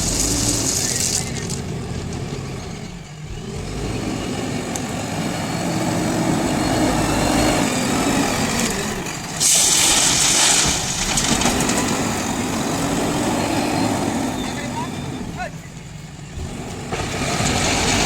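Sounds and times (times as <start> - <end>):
diesel engine running under load: 0.0 - 18.0.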